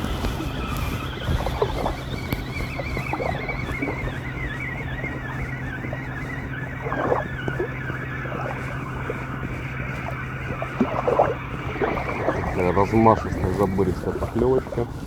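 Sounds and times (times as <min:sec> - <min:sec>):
faint warbling high tone: 0:00.0 - 0:15.0
low hum: 0:00.0 - 0:15.0
wind buffeting microphone: 0:00.0 - 0:15.0.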